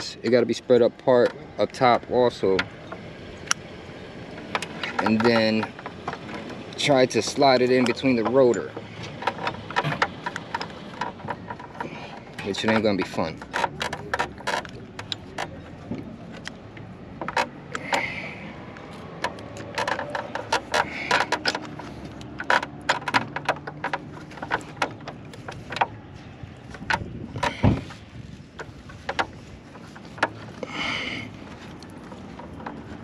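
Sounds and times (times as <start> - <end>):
metal brake caliper clicks: 0.0 - 33.0.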